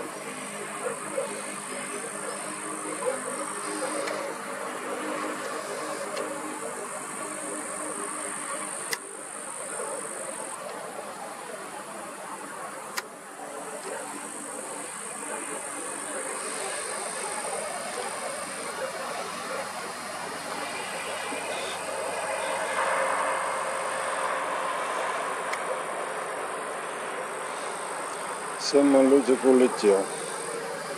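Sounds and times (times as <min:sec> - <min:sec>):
distant engine rumble: 0:00.0 - 0:30.9
high continuous buzz: 0:00.0 - 0:30.9.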